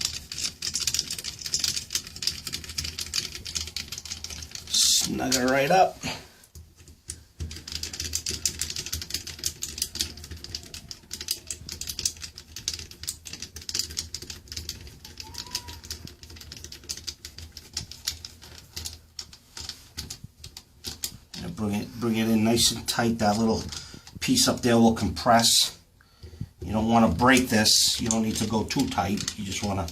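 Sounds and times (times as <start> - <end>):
screws clicking and rattling: 0.0 - 5.8, 6.8 - 25.6, 26.3 - 29.9.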